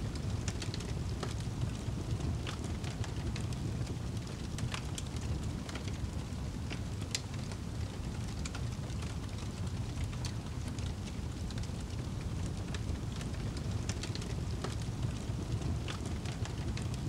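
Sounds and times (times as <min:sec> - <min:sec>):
low roar of fire: 0:00.0 - 0:17.0
wood fire crackling and popping: 0:00.0 - 0:17.0.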